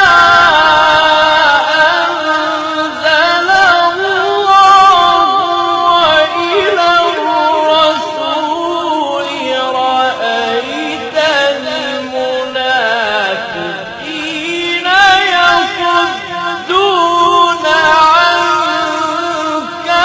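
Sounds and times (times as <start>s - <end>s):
person chanting recitation: 0.0s - 20.0s.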